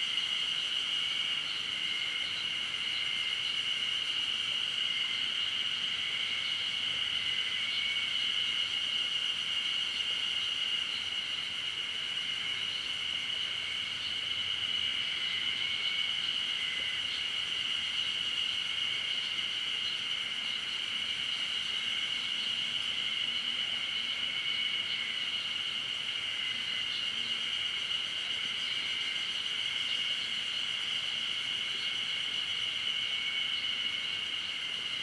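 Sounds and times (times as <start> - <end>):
insect chorus drone: 0.0 - 35.0
low-pitched insect drone: 0.0 - 35.0.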